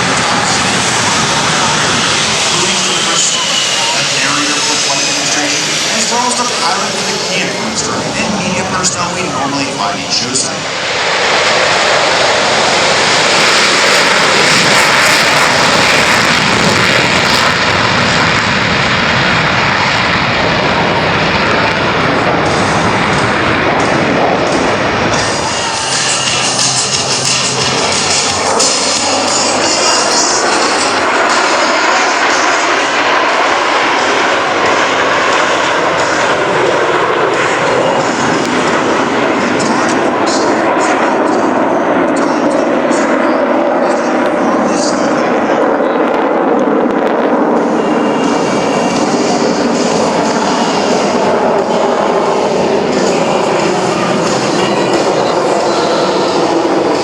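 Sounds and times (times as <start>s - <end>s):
jet aircraft flying past: 0.0s - 57.0s.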